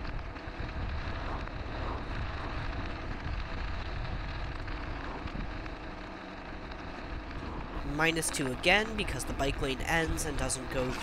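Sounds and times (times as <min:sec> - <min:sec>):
tyres rolling on asphalt: 0:00.0 - 0:11.0
wind buffeting microphone: 0:00.0 - 0:11.0.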